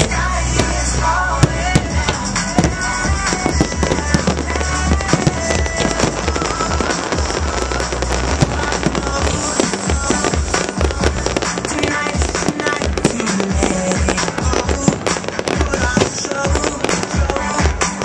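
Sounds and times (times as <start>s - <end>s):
fireworks bangs and crackling: 0.0s - 18.0s
music: 0.0s - 18.0s.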